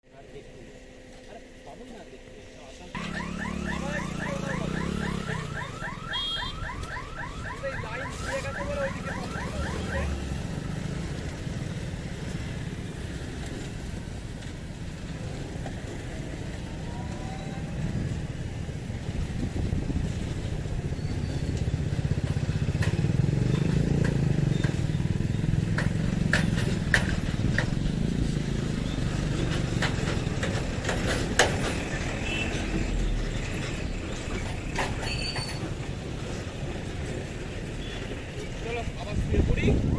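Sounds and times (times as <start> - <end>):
road vehicle engines rumbling: 0.0 - 39.9
motorcycles: 0.2 - 39.9.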